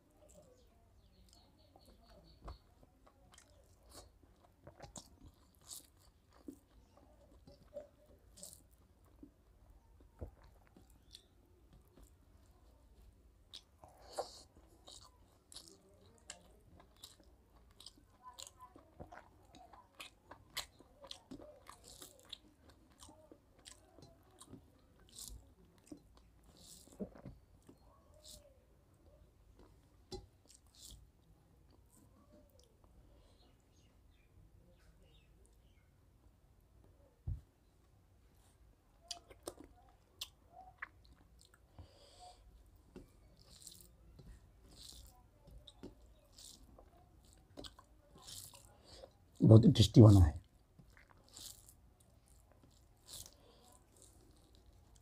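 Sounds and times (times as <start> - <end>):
man chewing with wet smacks: 0.1 - 34.2, 38.4 - 49.4, 50.1 - 55.0.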